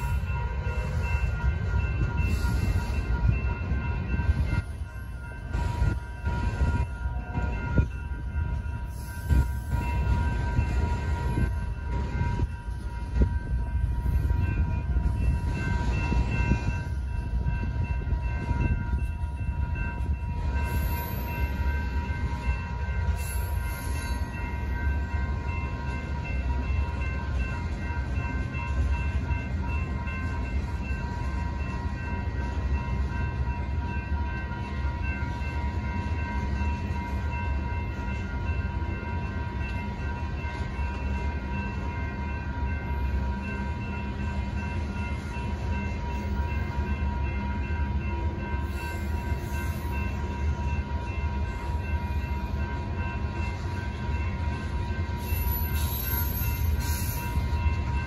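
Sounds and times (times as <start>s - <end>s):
crossing warning bells ringing: 0.0s - 58.0s
freight train rolling past: 0.0s - 58.0s.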